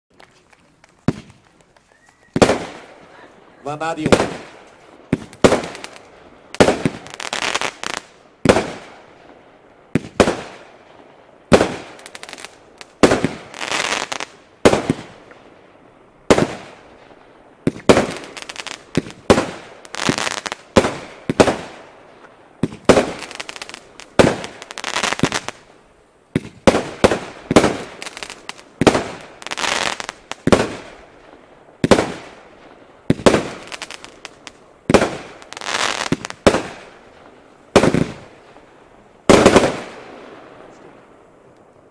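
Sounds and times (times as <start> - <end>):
firework shots with crackling tails: 0.1 - 1.6, 2.3 - 41.5.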